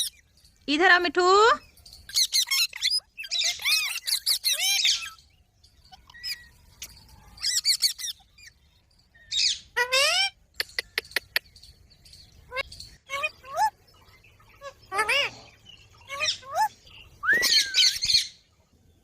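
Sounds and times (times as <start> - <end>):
parakeets chirping: 1.3 - 18.4.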